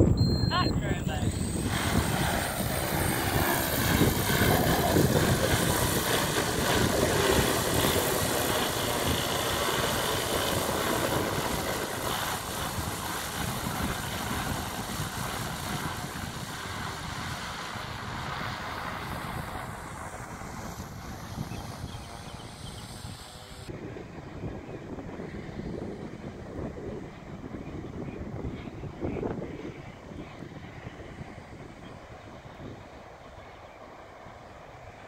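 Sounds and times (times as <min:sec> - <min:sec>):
drone propellers droning: 0:00.0 - 0:35.0.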